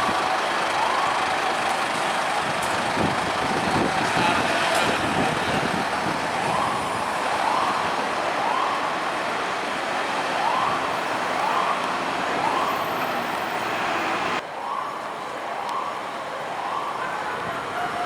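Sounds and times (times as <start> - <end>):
engine and road noise: 0.0 - 18.0
fire engine siren sweeping: 0.0 - 18.0.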